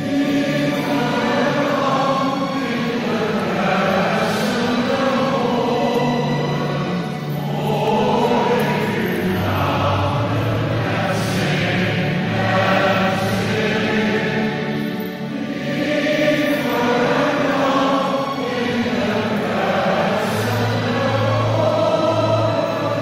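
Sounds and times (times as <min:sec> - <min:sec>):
church choir singing a hymn: 0:00.0 - 0:23.0.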